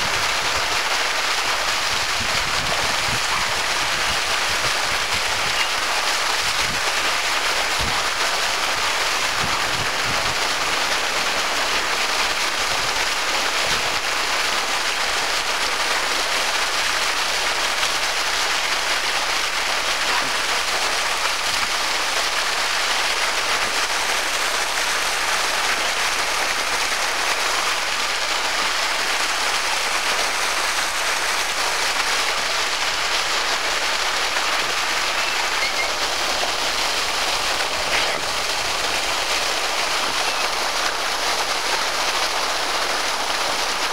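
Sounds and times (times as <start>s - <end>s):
fire hydrant water gushing: 0.0s - 43.9s.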